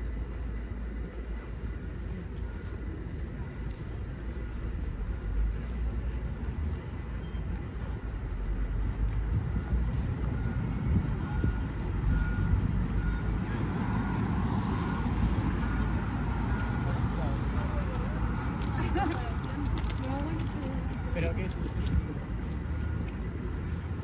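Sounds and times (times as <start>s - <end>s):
low rumble of vehicles: 0.0s - 24.0s.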